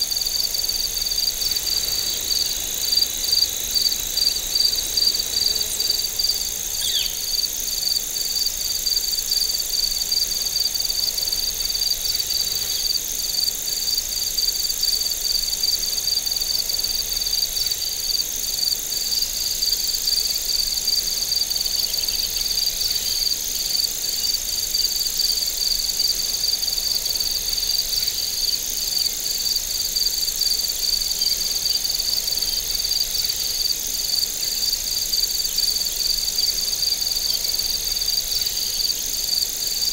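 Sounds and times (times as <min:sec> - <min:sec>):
cricket chirping in even pulse: 0:00.0 - 0:39.9
high-pitched cricket trill: 0:00.0 - 0:39.9.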